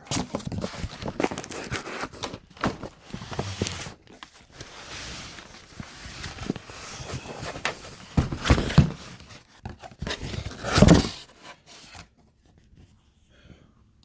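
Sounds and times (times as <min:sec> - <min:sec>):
rustling of packaging: 0:00.0 - 0:12.9.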